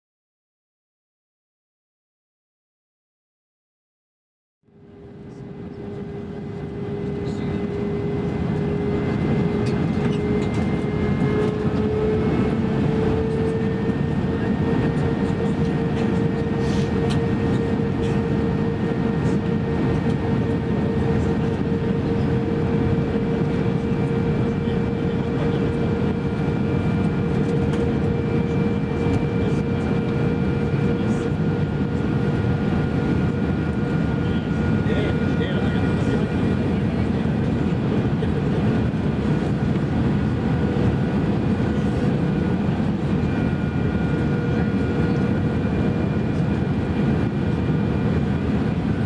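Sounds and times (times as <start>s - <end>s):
jet engine whine: 4.7s - 49.0s
cabin airflow roar: 4.9s - 49.0s.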